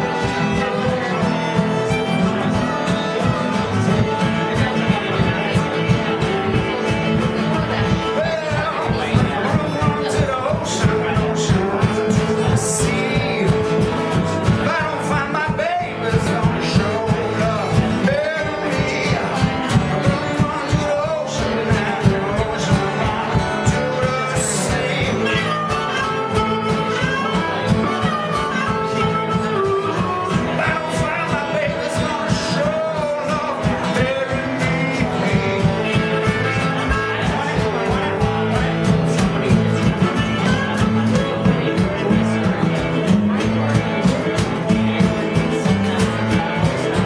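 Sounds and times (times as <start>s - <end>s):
acoustic guitars strumming: 0.0s - 47.0s
fiddle: 0.0s - 47.0s
person singing: 0.0s - 47.0s.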